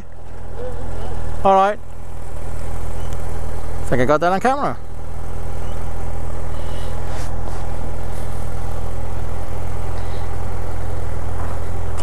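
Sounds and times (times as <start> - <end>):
motorcycle engine running slowly: 0.0 - 4.0, 4.8 - 12.0.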